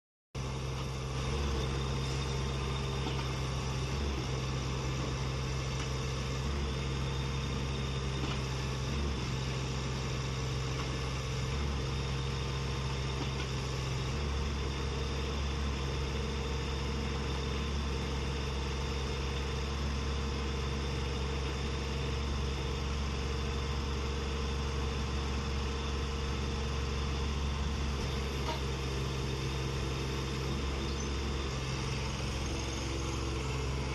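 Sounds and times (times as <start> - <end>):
excavator engine humming: 0.4 - 33.9.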